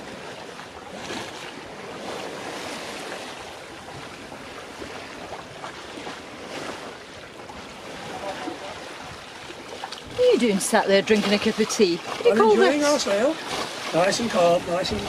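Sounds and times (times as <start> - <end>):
wind on microphone: 0.0 - 12.6, 13.3 - 15.0
sea water rushing along hull: 0.0 - 15.0.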